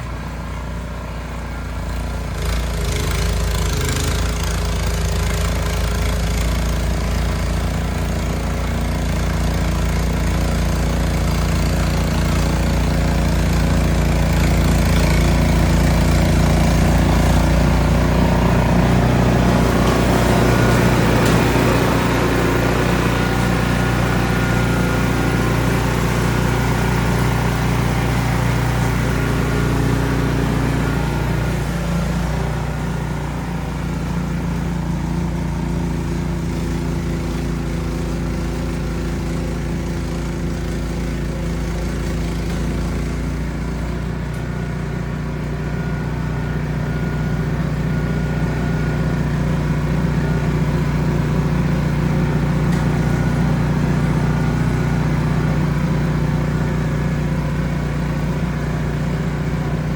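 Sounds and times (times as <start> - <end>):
snow blower engine running: 0.0 - 59.9.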